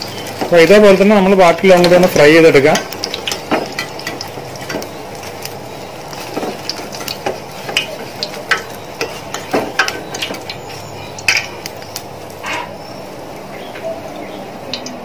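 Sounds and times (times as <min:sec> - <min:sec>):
food deep-frying in hot oil: 0:00.0 - 0:15.0.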